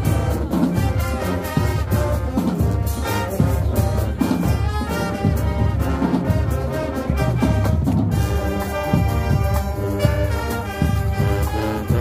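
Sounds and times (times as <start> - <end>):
brass horns playing chords: 0.0 - 12.0
drums beating: 0.0 - 12.0.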